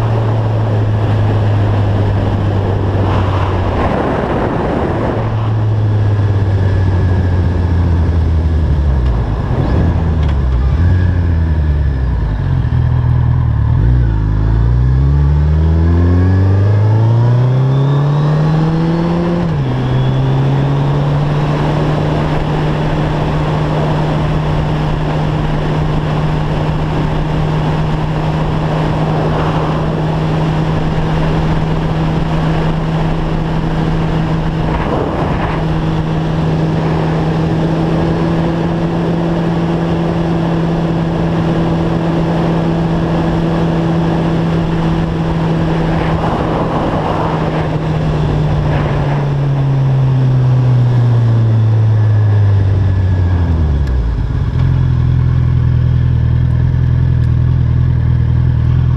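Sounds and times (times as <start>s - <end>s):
car engine hum: 0.0s - 58.9s
tyre and road noise: 0.0s - 58.9s.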